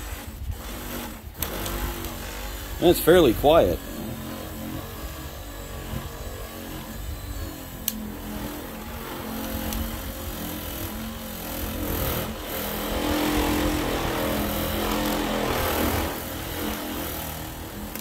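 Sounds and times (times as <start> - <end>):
orbital buffer motor hum: 0.0 - 18.0.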